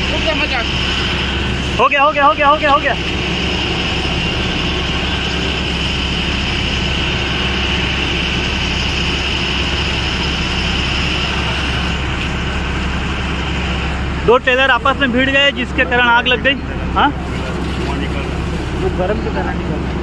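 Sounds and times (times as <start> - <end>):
water jetting from hose nozzle: 0.0 - 19.8
pump engine running: 0.0 - 20.0.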